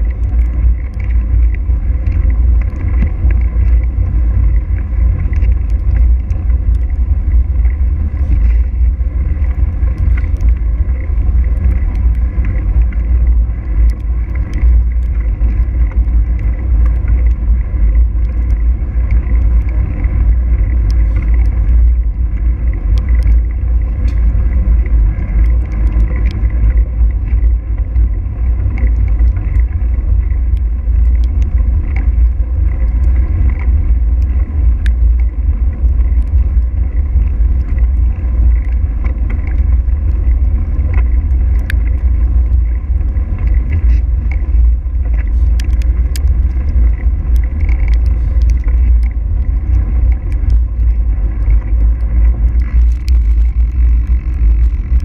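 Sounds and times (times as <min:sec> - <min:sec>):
tyre and road noise: 0:00.0 - 0:55.0
wind buffeting microphone: 0:00.0 - 0:55.0
sharp ticks: 0:09.2 - 0:55.0.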